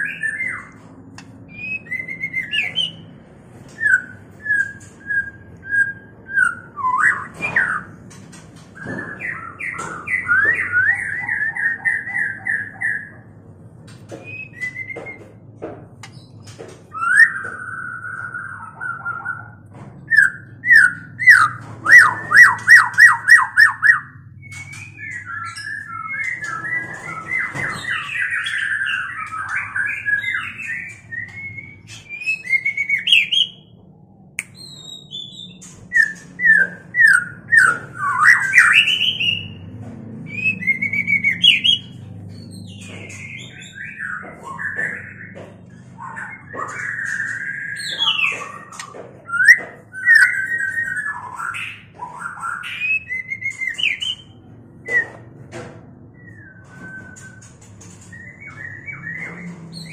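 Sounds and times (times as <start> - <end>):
birds singing and calling: 0.0 - 59.9.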